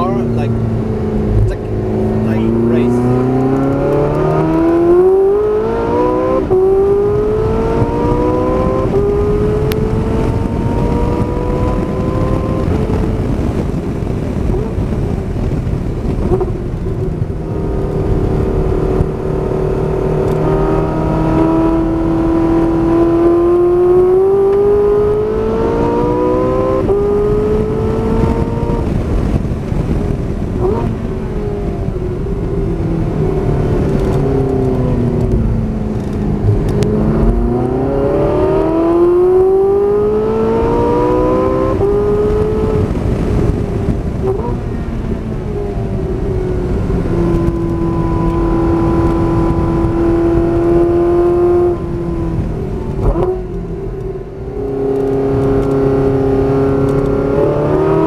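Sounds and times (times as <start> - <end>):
car engine accelerating hard: 0.0 - 58.0
wind and road noise: 0.0 - 58.0.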